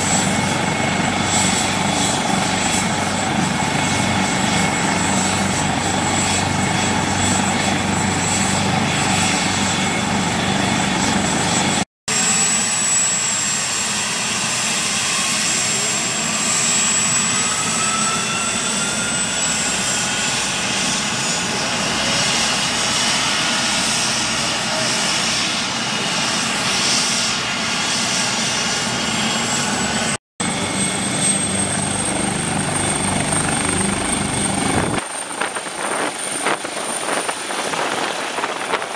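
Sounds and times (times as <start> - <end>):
helicopter turbine and rotor noise: 0.0 - 38.9.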